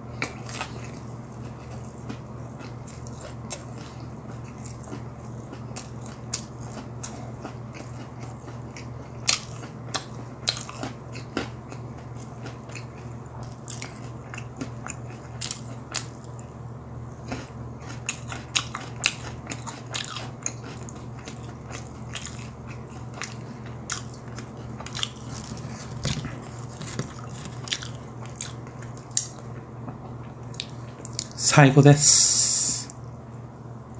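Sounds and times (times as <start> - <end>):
steady low hum: 0.0 - 33.9
chewing crispy fried chicken: 0.1 - 31.4.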